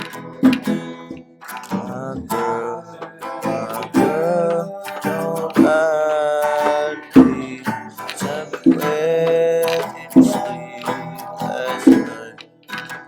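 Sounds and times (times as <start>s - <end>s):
acoustic guitar strumming chords: 0.0s - 13.0s
person singing long notes: 1.5s - 13.0s.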